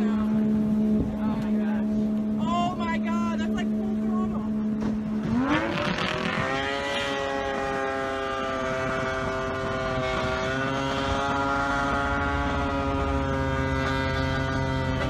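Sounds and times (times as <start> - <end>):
outboard motor revving high: 0.0 - 15.0.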